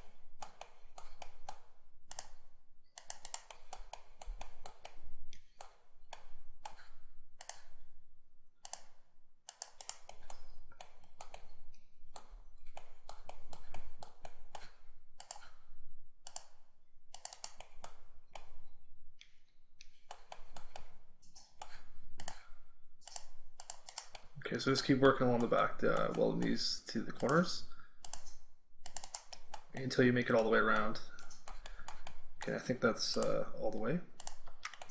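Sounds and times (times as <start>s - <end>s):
mouse and keyboard clicking: 0.0s - 7.8s, 8.6s - 15.6s, 16.2s - 34.9s.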